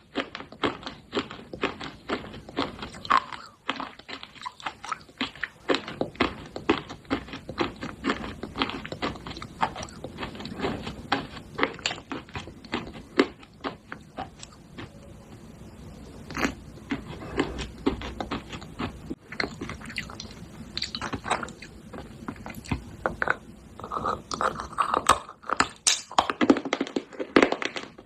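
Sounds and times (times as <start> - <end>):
chewing crunchy clay: 0.0 - 15.0, 16.2 - 28.0.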